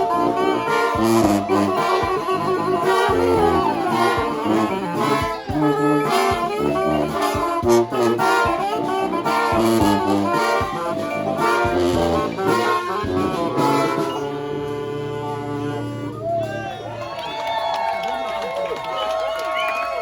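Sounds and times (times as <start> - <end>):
brass band playing: 0.0 - 17.2.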